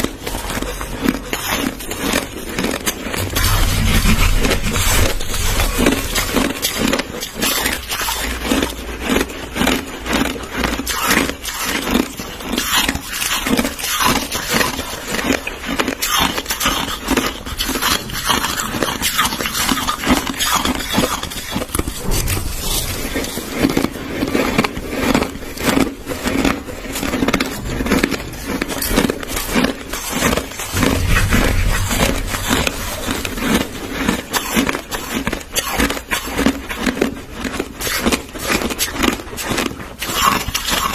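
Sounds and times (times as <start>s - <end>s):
chewing crushed ice: 0.0s - 3.3s, 6.1s - 31.6s, 33.6s - 40.9s.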